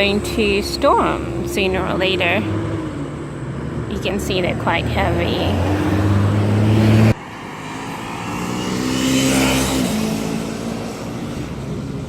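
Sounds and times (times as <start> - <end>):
engine hum: 0.0 - 12.0
car passing by: 1.1 - 12.0.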